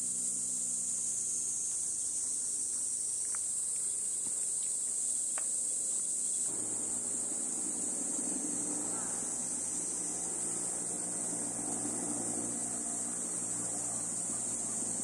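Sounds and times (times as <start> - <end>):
faint chirps: 0.0 - 15.0
insects chorus: 0.0 - 15.0.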